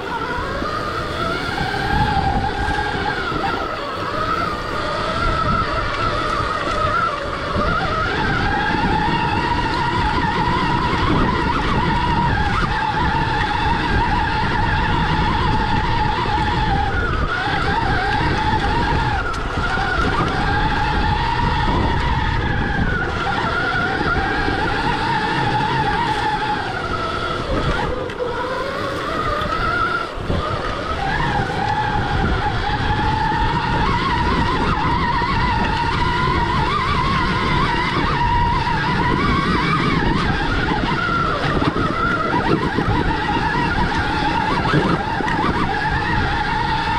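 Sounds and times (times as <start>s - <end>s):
electric dirt bike motor whining: 0.0s - 46.9s.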